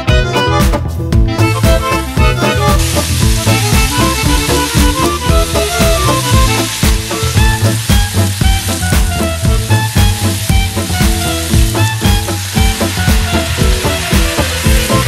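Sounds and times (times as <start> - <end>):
background music with steady beat: 0.0 - 15.0
beef sizzling in a frying pan: 1.6 - 15.0
sauce poured into hot pan: 2.4 - 15.0.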